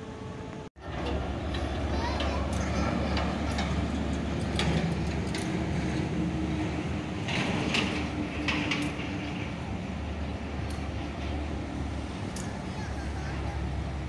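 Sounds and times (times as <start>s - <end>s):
diesel locomotive engine rumble: 0.0s - 14.0s
wheels clicking and squeaking: 0.8s - 9.9s, 10.6s - 14.0s.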